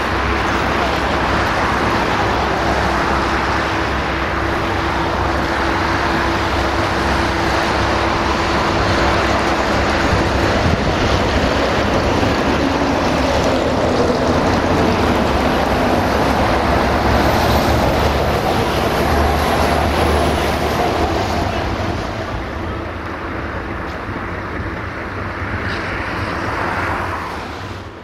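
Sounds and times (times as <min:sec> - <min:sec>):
diesel engine running: 0:00.0 - 0:26.6
rushing noise: 0:00.0 - 0:28.0.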